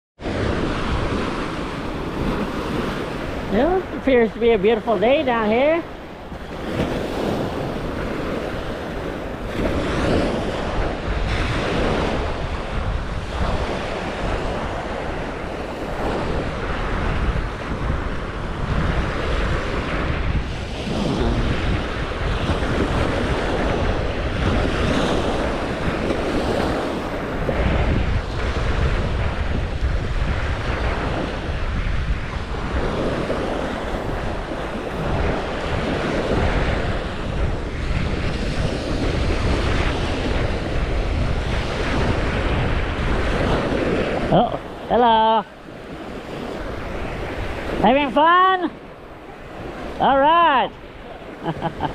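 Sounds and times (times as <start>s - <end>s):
surf washing onto beach: 0.2s - 51.9s
wind buffeting microphone: 0.2s - 51.9s.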